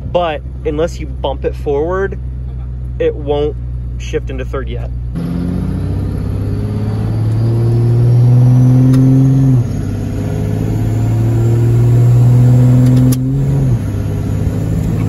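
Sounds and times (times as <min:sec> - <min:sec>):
diesel engine accelerating: 0:00.0 - 0:15.0.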